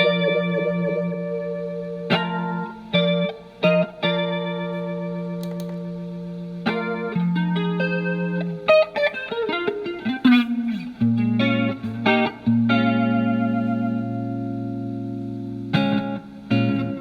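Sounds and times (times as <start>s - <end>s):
electric guitar with flanger: 0.0s - 17.0s.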